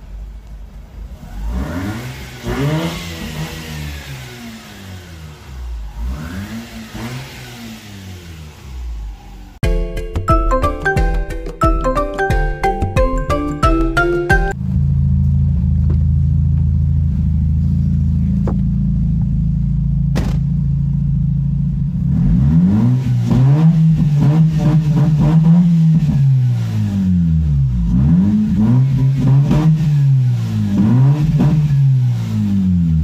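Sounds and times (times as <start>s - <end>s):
rotary engine idling and revving: 0.9s - 9.6s, 14.6s - 33.0s.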